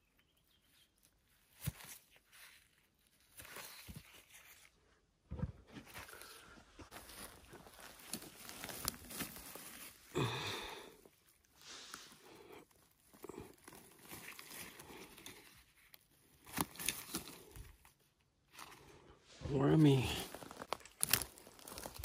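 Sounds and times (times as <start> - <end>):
rustling of forest floor litter: 0.4 - 4.8, 5.8 - 22.0.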